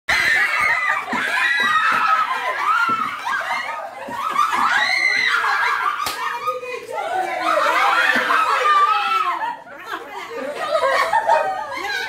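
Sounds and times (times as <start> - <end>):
women laughing loudly: 0.2 - 12.0.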